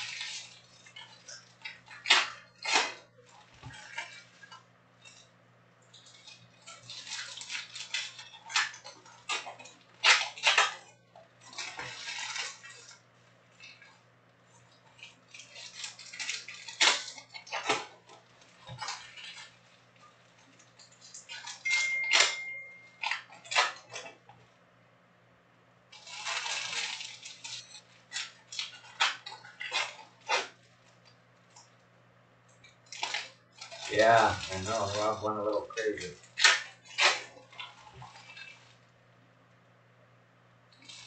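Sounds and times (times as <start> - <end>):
foil wrappers tearing and crinkling: 0.0 - 5.3, 5.9 - 14.0, 14.6 - 24.2, 25.9 - 31.7, 32.7 - 38.9, 40.7 - 41.0.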